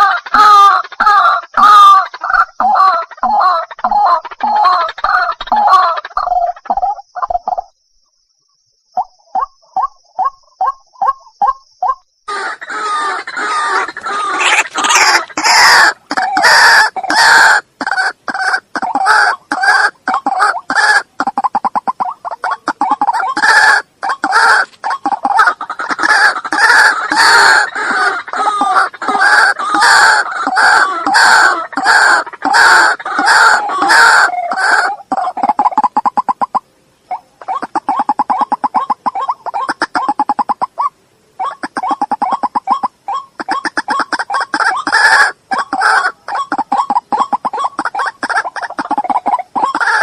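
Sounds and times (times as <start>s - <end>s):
bird rapidly repeating calls: 0.0s - 7.6s, 12.3s - 50.0s.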